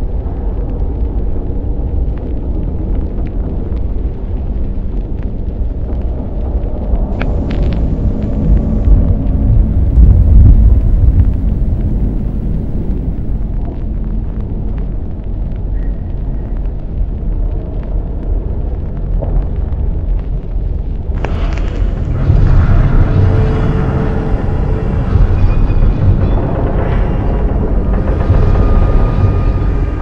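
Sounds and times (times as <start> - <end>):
deep continuous rumble: 0.0 - 30.0
faint crackles: 0.0 - 30.0.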